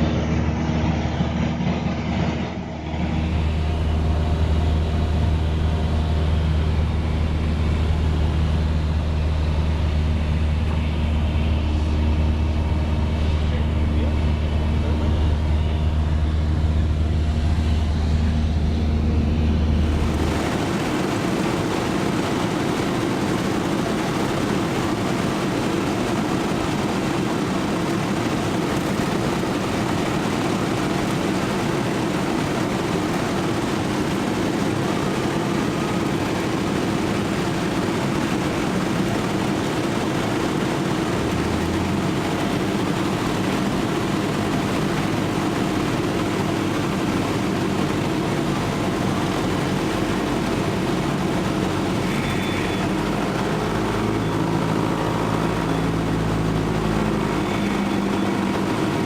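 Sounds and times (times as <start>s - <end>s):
airplane engine and propeller droning: 0.0s - 59.0s.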